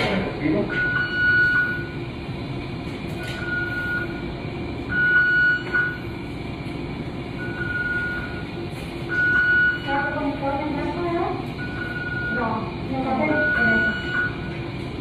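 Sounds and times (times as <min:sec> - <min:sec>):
room and equipment hum: 0:00.0 - 0:15.0
medical alarm beeping: 0:00.6 - 0:02.2, 0:03.2 - 0:06.3, 0:07.3 - 0:15.0.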